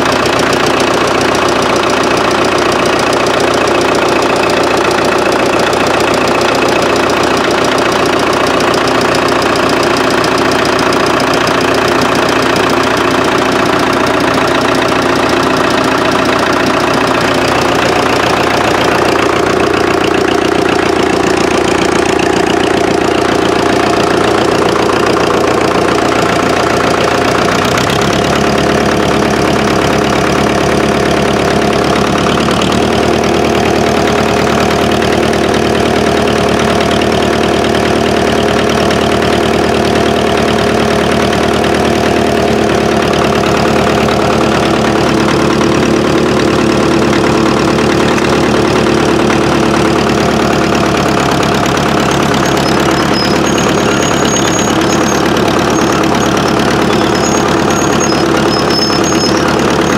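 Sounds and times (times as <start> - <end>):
diesel crawler engine running: 0.0 - 59.9.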